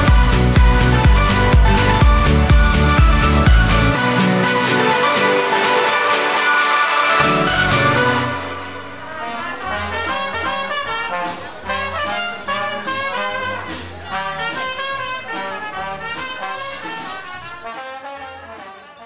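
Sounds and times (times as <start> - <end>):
cymbal beat: 0.0 - 18.6
jazz band playing: 0.0 - 19.0
trumpet: 0.0 - 19.0.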